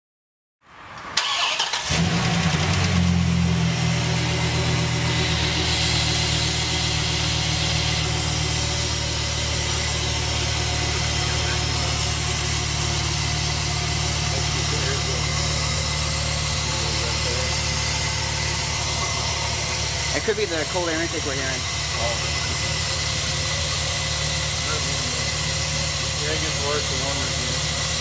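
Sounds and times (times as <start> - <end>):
engine cranking and idling: 1.2 - 28.0.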